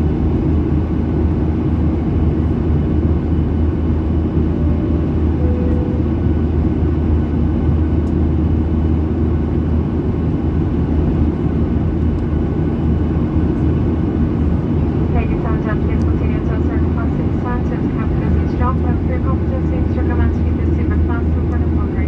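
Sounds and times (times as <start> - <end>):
airplane cabin drone: 0.0 - 22.0.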